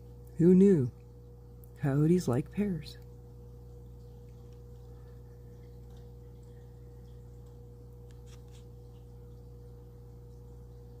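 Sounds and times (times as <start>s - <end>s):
faint constant tone: 0.0s - 11.0s
steady low hum: 0.0s - 11.0s.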